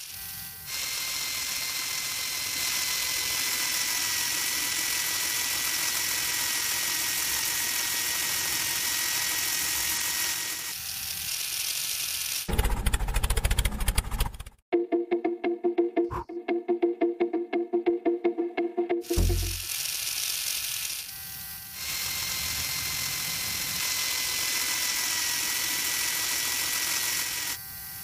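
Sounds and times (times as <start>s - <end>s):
small motor whirring: 0.0s - 14.5s, 19.1s - 28.0s.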